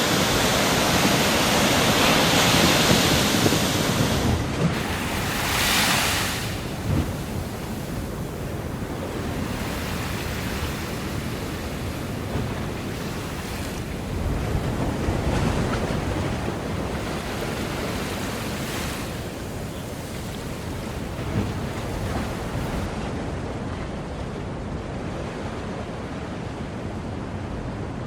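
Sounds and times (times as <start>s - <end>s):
ocean waves washing onto shore: 0.0s - 28.0s.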